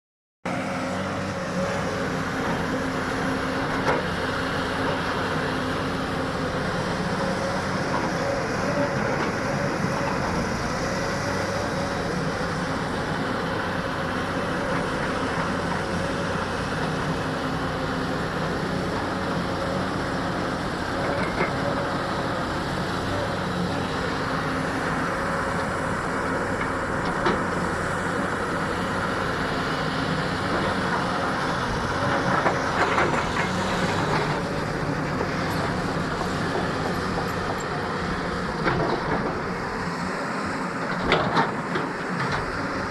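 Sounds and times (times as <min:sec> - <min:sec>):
excavator diesel engine running: 0:00.5 - 0:42.9.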